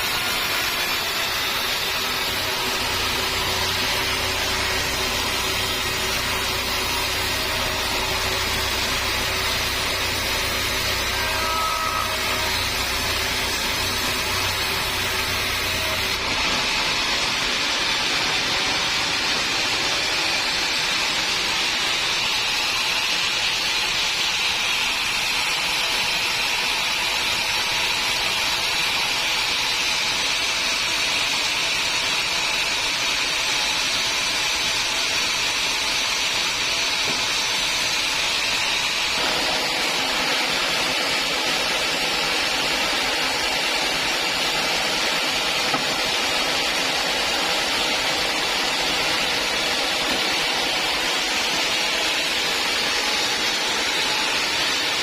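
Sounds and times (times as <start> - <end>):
sawmill machinery hissing: 0.0 - 55.0.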